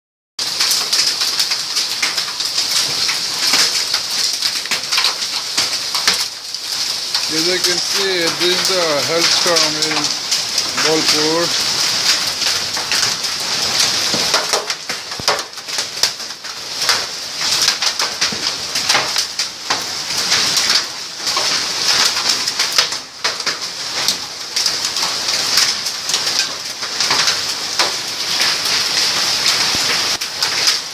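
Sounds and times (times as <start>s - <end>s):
hailstones clattering: 0.4s - 30.9s
rain hiss: 0.4s - 30.9s.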